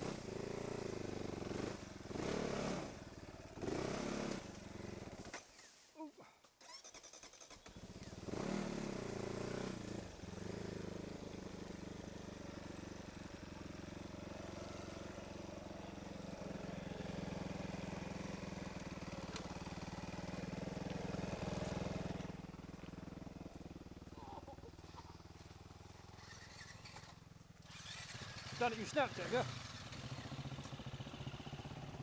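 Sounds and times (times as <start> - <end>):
motorcycle engine idling: 2.8 - 3.8, 4.4 - 5.3, 7.3 - 32.0.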